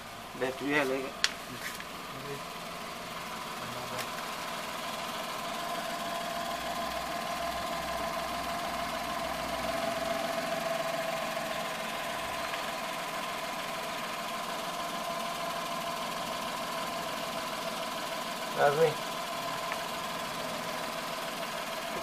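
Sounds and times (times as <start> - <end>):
van engine running: 0.0 - 22.0.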